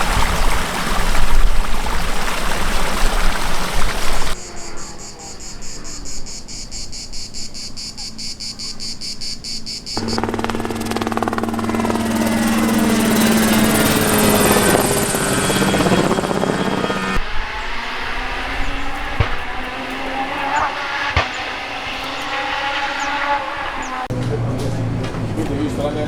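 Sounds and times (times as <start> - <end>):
insects chirping: 0.0 - 24.1.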